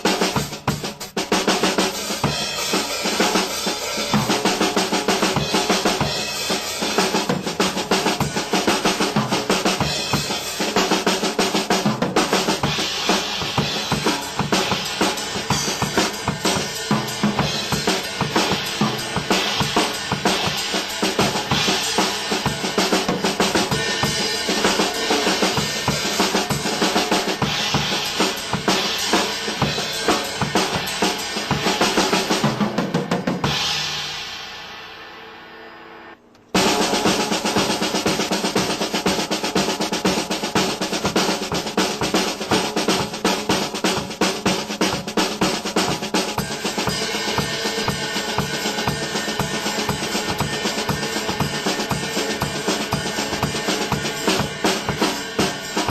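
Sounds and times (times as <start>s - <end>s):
bright cymbal wash: 0.0s - 55.9s
drum kit playing fast runs: 0.0s - 55.9s.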